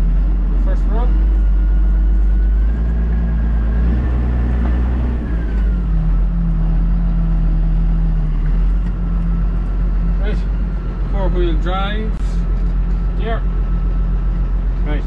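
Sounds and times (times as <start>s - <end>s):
tractor engine hum with whine: 0.0s - 15.0s.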